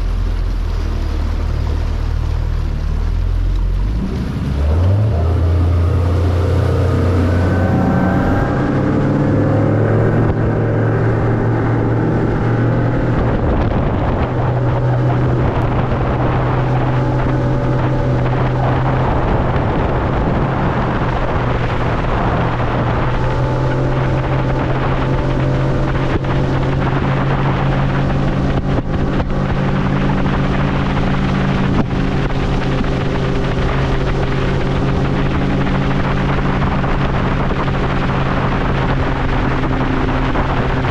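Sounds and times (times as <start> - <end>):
outboard motor running hard: 0.0 - 40.9
rush of wind and water: 0.0 - 40.9.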